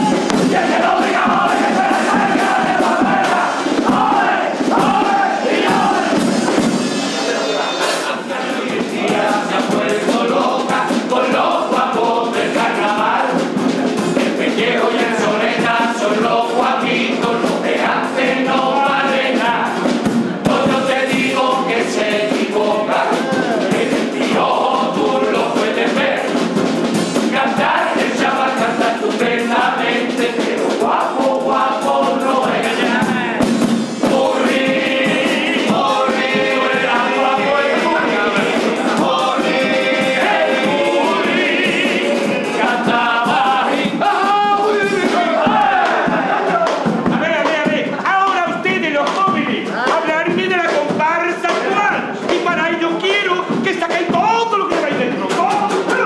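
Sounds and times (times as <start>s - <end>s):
bass drum: 0.0s - 56.0s
men singing together: 0.0s - 56.0s
snare drum: 0.0s - 56.0s.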